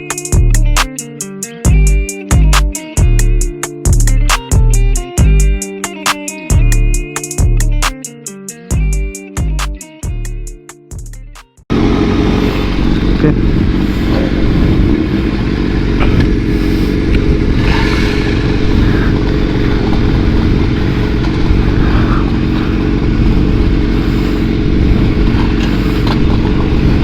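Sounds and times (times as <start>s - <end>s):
loud deep motorcycle engine: 0.0s - 7.9s, 11.7s - 27.0s.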